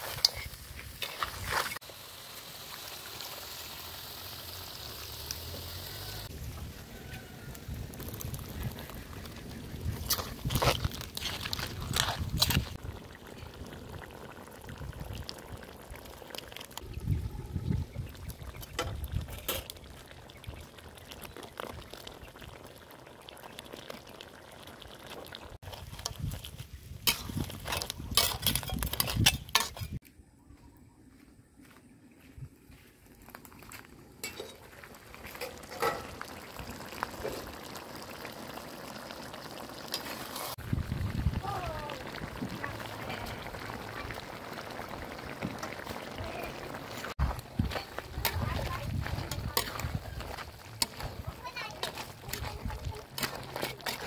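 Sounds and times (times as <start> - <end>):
liquid bubbling in a wok: 0.0 - 30.0, 33.2 - 54.0.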